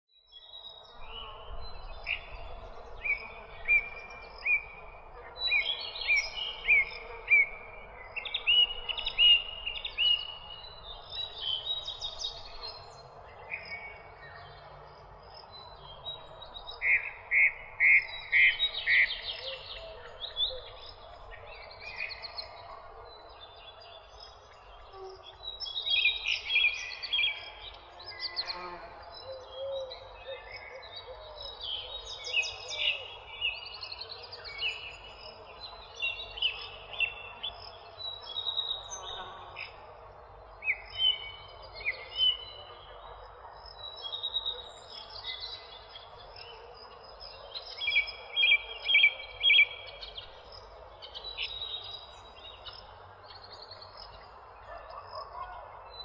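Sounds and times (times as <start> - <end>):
songbirds chirping and singing: 0.2 - 56.0.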